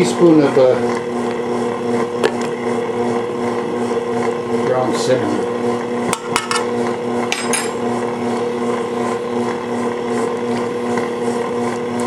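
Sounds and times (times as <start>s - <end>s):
electric mixer humming: 0.0s - 12.0s.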